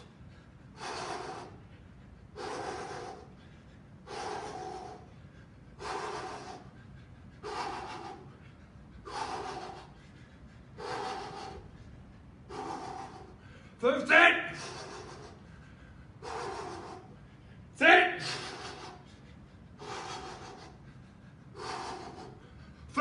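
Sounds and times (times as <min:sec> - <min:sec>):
man breathing hard: 0:00.0 - 0:23.0.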